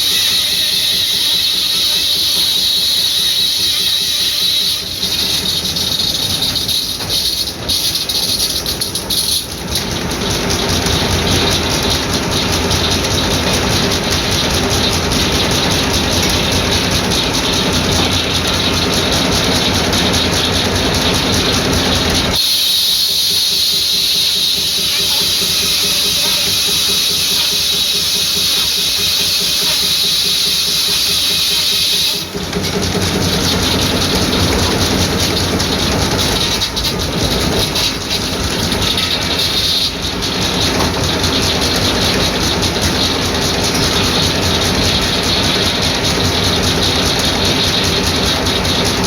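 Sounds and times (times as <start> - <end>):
sawmill engine beat and clatter: 0.0 - 49.0.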